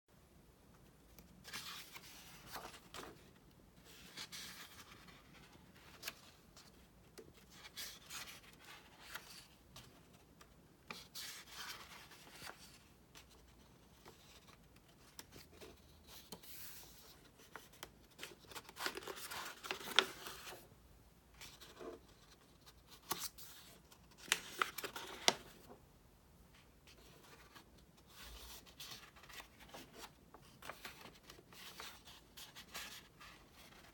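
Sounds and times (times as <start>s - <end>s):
paper pages turning and rustling: 1.2s - 20.7s, 21.4s - 25.8s, 26.9s - 33.9s.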